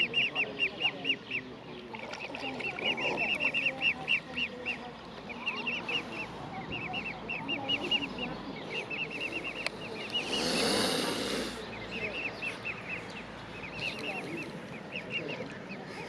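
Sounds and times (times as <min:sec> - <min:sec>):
swan cygnets peeping: 0:00.0 - 0:16.0.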